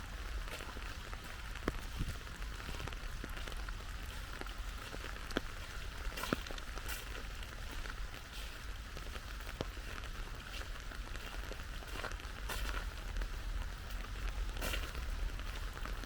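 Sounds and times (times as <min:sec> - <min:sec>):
steady rain hiss: 0:00.0 - 0:16.0
water drips: 0:00.0 - 0:16.0.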